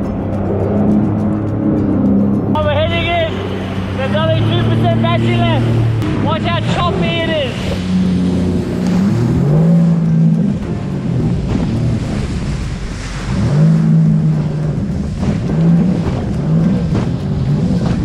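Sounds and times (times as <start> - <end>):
jet ski engine running: 0.0 - 18.0
water rushing off hull: 0.0 - 18.0.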